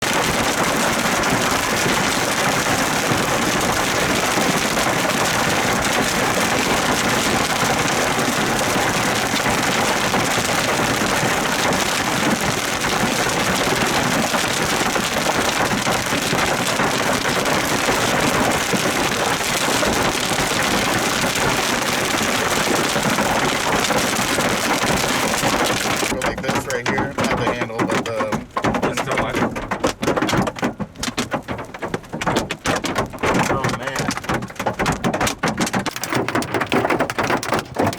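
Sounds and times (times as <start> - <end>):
hail clattering: 0.0 - 37.9.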